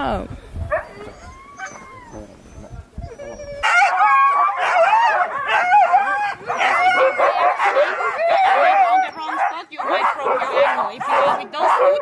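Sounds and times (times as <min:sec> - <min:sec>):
huskies barking and howling: 0:00.6 - 0:12.0.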